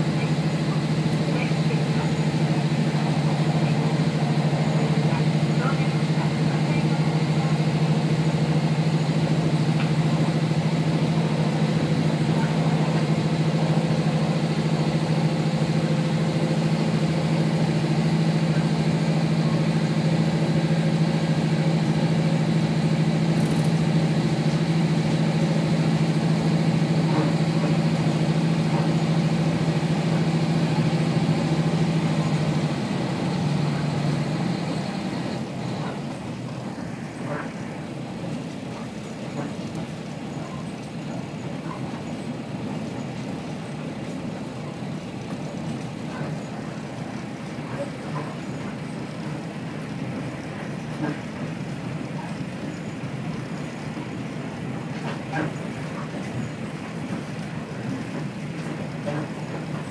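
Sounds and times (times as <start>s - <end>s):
railcar diesel engine droning: 0.0s - 59.9s.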